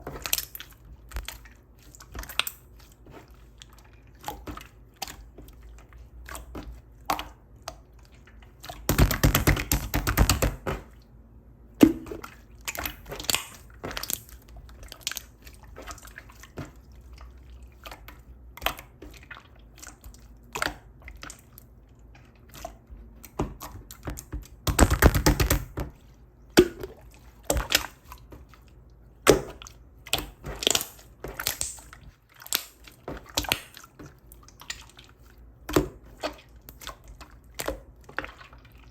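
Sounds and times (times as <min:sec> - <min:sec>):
rapid crackling of slime: 0:00.0 - 0:11.0, 0:12.0 - 0:38.9.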